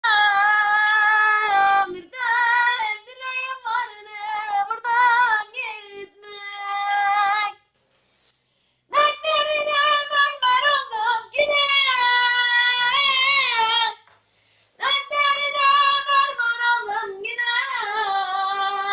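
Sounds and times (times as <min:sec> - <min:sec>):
child singing: 0:00.0 - 0:07.6, 0:08.9 - 0:14.0, 0:14.8 - 0:18.9.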